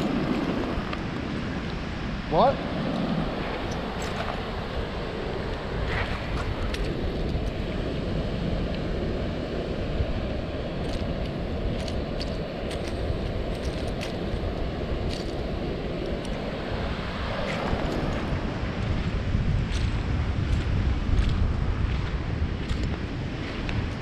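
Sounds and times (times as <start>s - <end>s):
surf rushing: 0.0s - 24.0s
wind rumbling on microphone: 0.0s - 24.0s.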